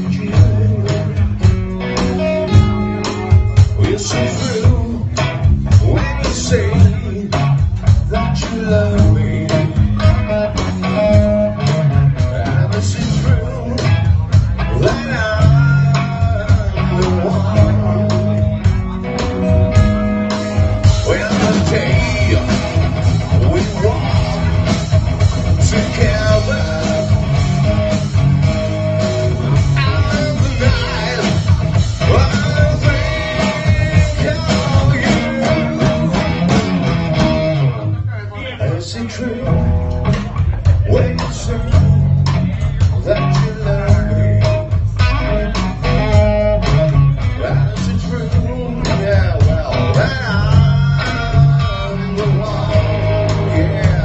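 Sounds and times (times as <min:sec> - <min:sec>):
drum kit beating: 0:00.0 - 0:38.2, 0:39.0 - 0:54.0
bass guitar: 0:00.0 - 0:54.0
electric guitar: 0:00.0 - 0:54.0
man singing: 0:00.0 - 0:54.0.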